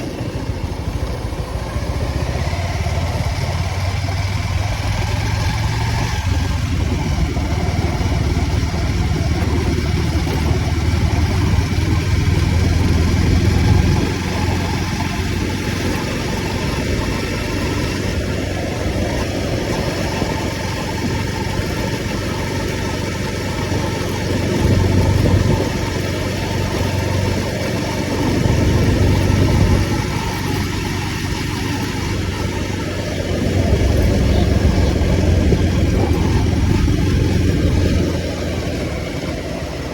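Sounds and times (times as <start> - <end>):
motorcycle engine: 0.0 - 39.9
road and traffic noise: 0.0 - 39.9.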